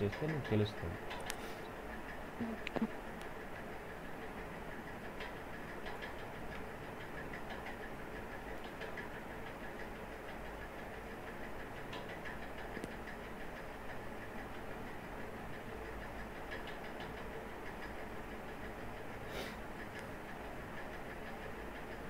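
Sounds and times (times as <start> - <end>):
background hiss and hum: 0.0 - 22.0.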